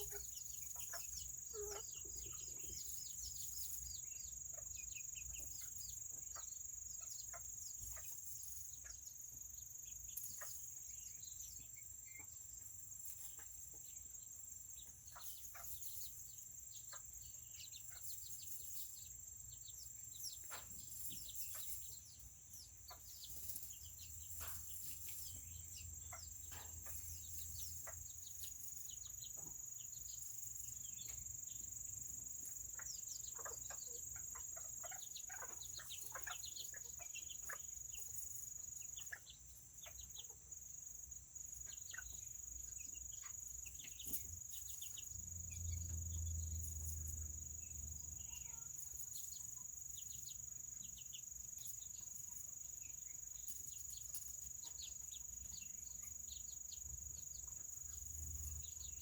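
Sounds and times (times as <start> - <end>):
chickens clucking and chirping: 0.0 - 59.0.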